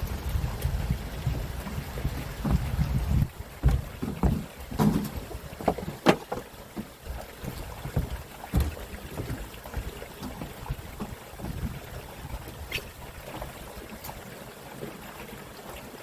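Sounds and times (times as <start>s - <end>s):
knocks and splashes on deck: 0.0s - 14.2s
water sloshing against boat hull: 0.0s - 16.0s.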